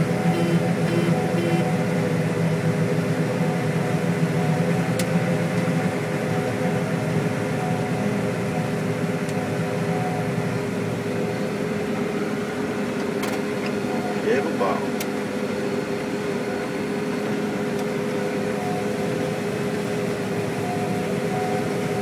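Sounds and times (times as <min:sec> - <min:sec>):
combine harvester droning: 0:00.0 - 0:22.0.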